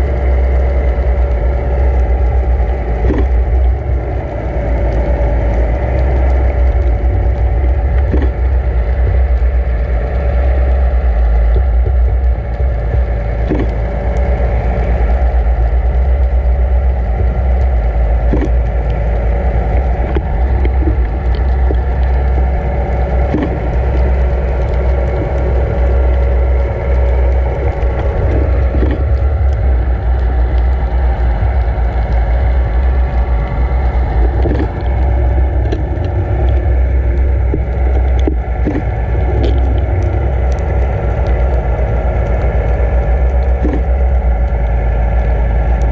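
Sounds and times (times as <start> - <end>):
boat engine hum: 0.0 - 45.9
underwater water rushing: 0.0 - 45.9
faint clicks: 0.5 - 45.9.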